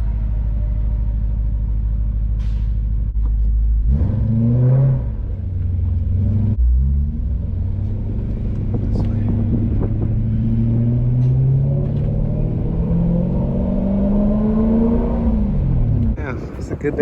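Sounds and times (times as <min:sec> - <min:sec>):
car engine idling and accelerating: 0:00.0 - 0:17.0.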